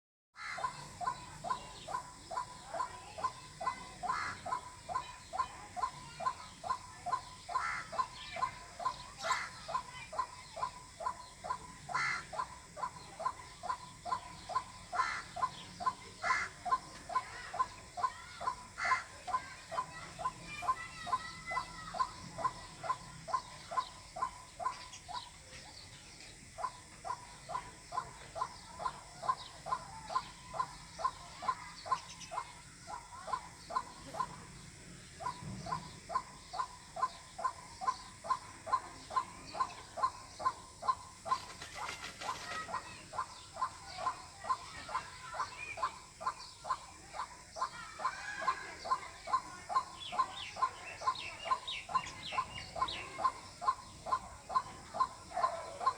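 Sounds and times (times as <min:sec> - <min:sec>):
waterhen calling: 0:00.4 - 0:25.5, 0:26.6 - 0:55.9.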